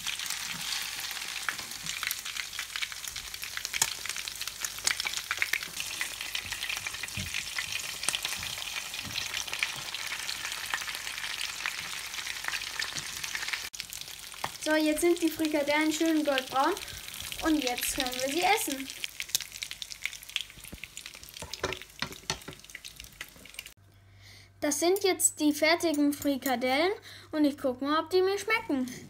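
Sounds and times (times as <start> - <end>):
patties sizzling in oil: 0.0 - 23.8.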